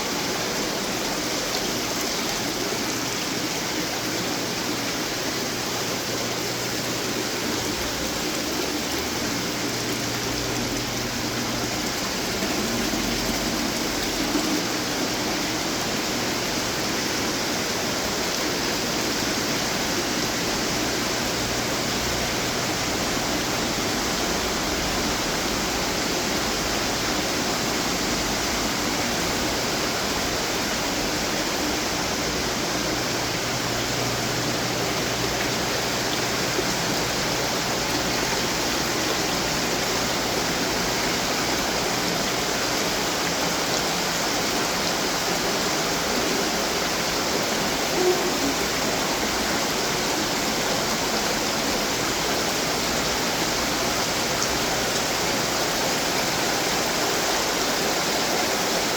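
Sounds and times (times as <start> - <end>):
fountain water splashing: 0.0 - 58.9.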